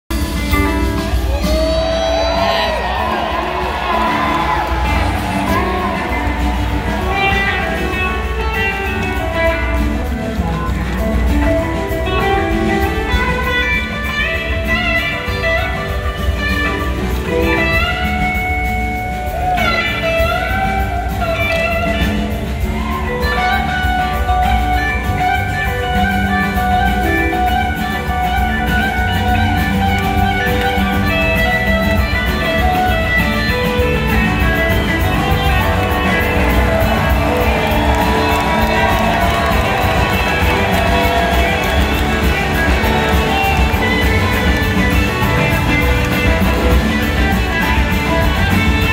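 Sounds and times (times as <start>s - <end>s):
bending lead guitar line: 0.1s - 48.9s
live rock band playing: 0.1s - 48.9s.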